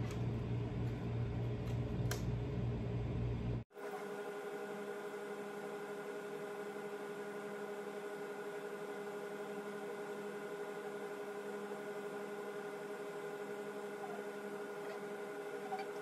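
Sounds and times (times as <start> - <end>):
steady hum of held tones: 0.0 - 16.0.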